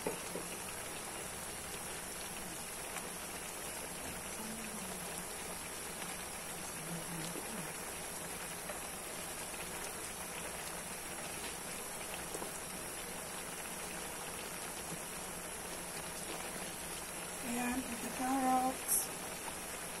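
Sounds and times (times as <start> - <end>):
liquid simmering in a wok: 0.0 - 20.0.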